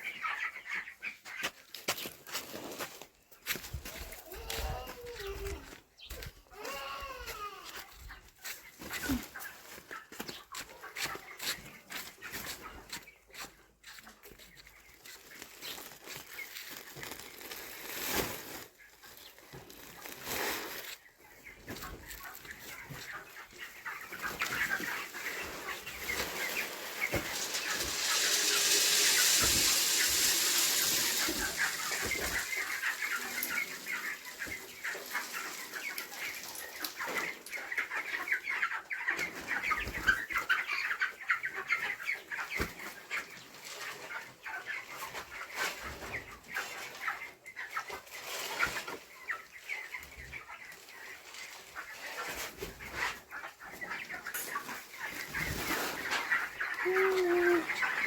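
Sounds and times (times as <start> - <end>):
chickens clucking and chirping: 0.0 - 58.0.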